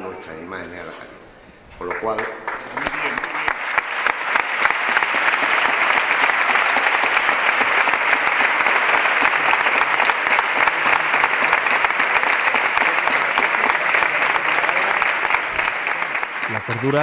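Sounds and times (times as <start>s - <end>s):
crowd applauding: 1.8s - 17.0s.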